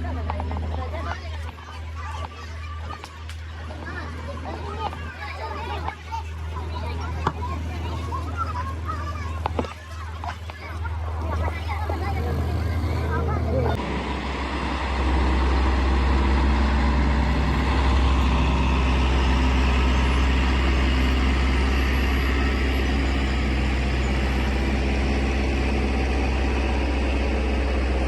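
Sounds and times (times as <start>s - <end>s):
tractor engine rumbling: 0.0s - 28.0s.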